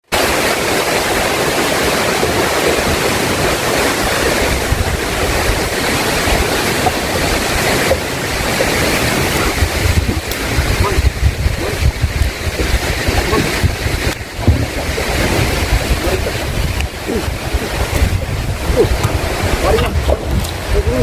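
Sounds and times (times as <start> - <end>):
strong wind rushing: 0.3 - 21.0
wind buffeting microphone: 0.5 - 21.0.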